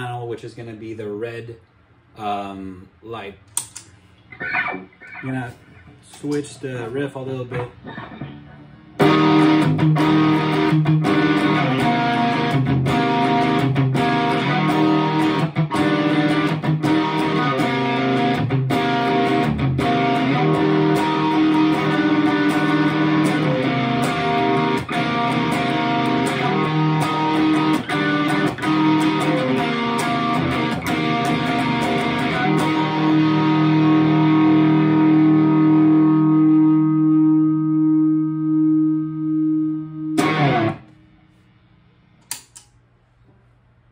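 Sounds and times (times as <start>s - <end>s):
distorted electric guitar chords: 4.2s - 6.0s, 7.4s - 41.3s.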